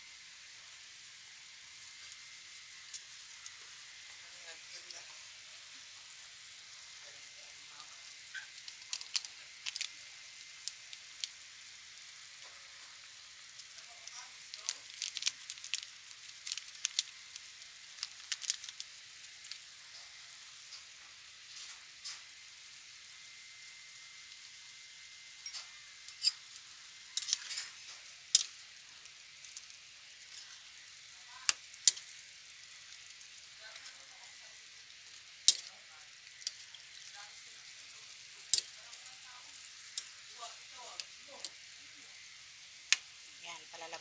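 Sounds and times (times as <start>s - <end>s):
stew bubbling in a frying pan: 0.0s - 44.0s.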